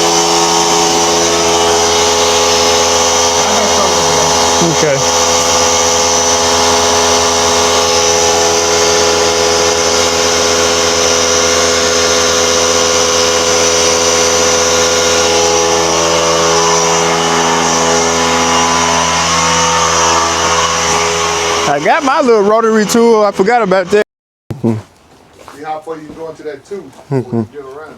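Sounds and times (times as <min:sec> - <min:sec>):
electric rotary tool whining: 0:00.0 - 0:24.0.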